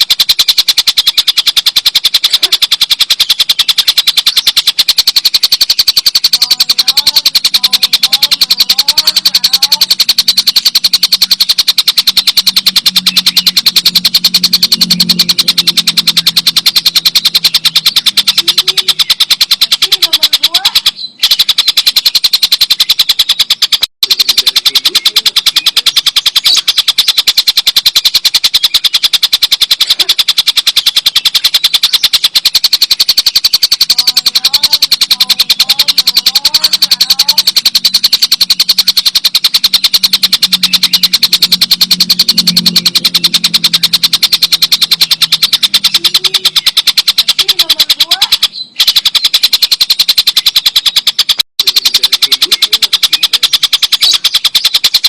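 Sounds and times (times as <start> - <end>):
kingfisher chattering: 0.0 - 55.0.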